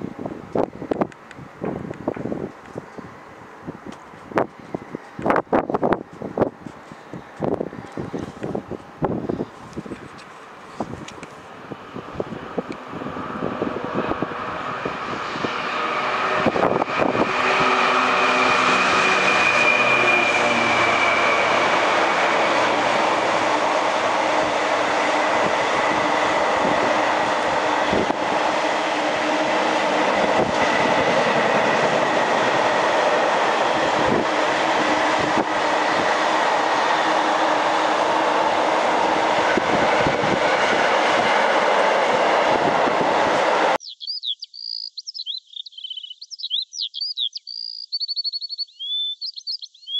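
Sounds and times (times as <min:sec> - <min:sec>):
pitched whine from train: 0:00.0 - 0:43.8
train passing: 0:00.0 - 0:43.8.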